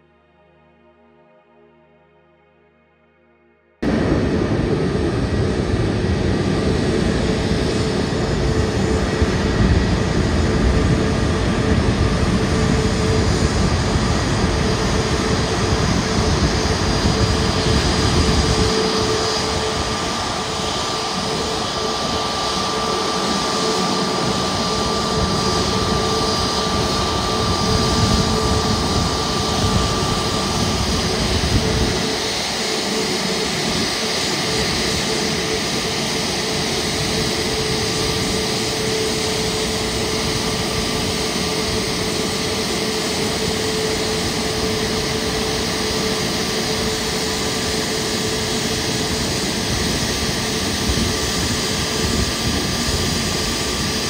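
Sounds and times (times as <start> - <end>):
jet turbine whine: 3.8 - 54.0.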